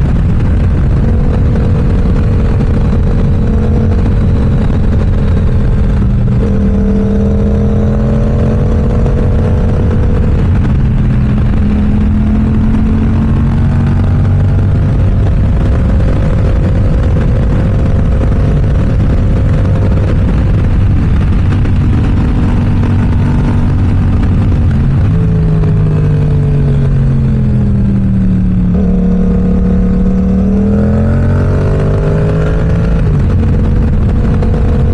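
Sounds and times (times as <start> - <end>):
motorcycle engine riding: 0.0 - 34.9
wind and road noise: 0.0 - 34.9.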